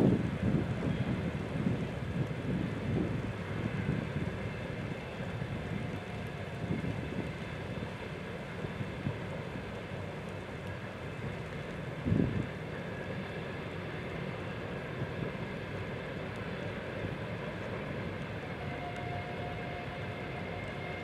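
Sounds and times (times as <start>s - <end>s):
distant freight train rolling: 0.0s - 21.0s
wind buffeting microphone: 0.0s - 21.0s.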